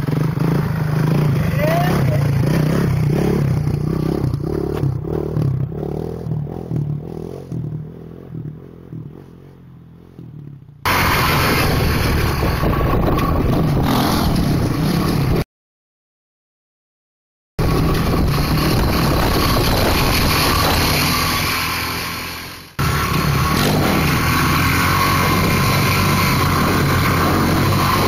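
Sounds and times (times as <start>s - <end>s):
quad bike engine: 0.0s - 15.4s, 17.6s - 28.0s.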